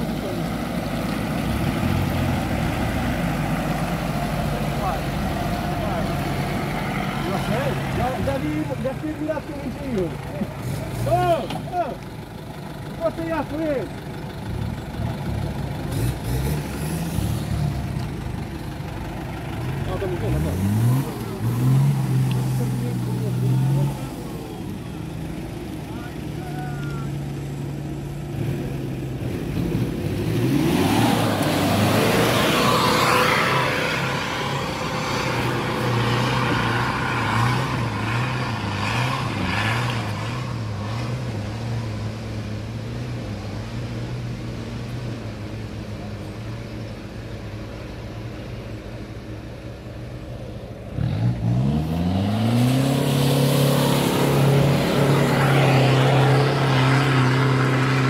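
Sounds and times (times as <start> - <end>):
pickup engines revving: 0.0 - 12.3, 12.9 - 46.1, 47.4 - 58.0.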